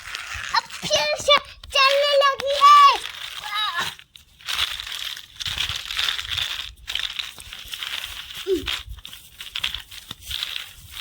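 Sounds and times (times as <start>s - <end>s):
toy car wheels crunching dirt: 0.0s - 11.0s.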